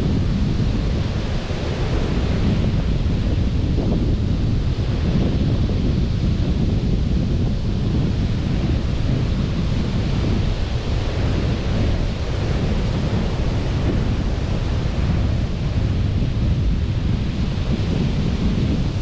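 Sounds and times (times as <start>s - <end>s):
sea surf rushing: 0.0s - 19.0s
wind buffeting microphone: 0.0s - 19.0s.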